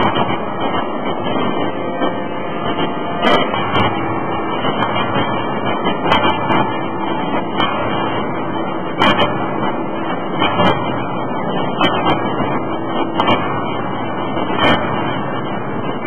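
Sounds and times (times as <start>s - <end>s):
forge machinery din: 0.0s - 16.0s.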